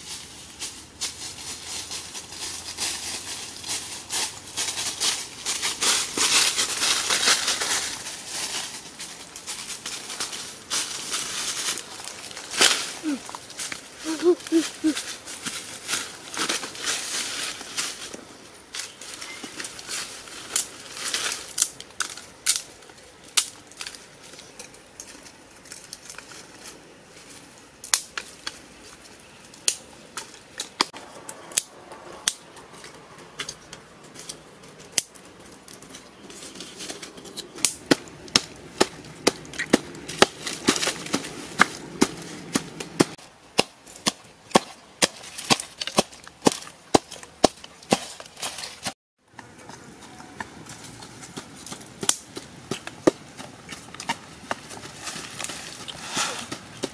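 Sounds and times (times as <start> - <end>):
dry sticks crackling and snapping: 0.6 - 56.9.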